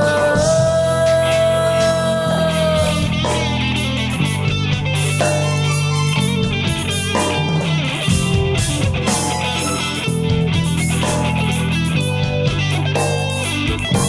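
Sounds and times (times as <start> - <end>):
electric guitar: 0.0 - 14.0
funk rock band playing: 0.0 - 14.0.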